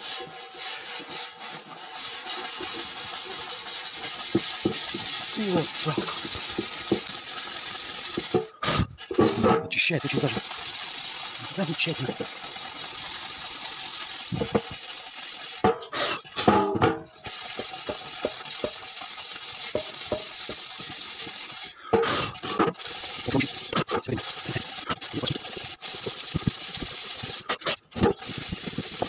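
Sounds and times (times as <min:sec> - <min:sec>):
mesh scrubbing metal drum: 0:00.0 - 0:29.0.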